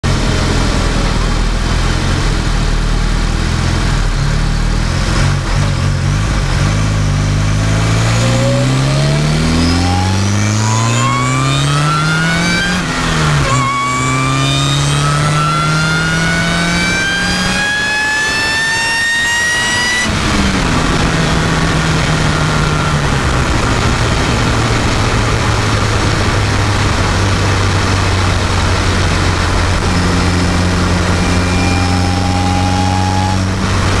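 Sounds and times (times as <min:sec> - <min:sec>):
supercharged engine whine: 0:00.0 - 0:34.0.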